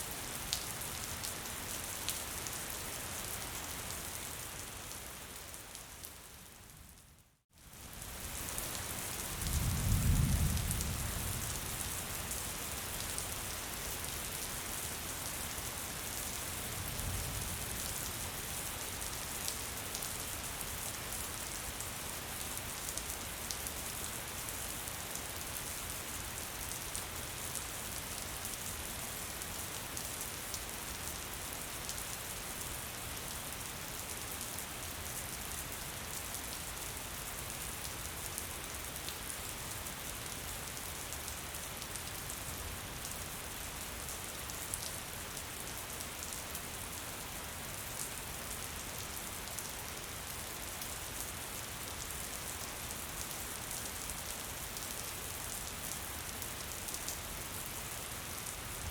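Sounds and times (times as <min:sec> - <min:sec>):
gentle rain falling: 0:00.0 - 0:58.9.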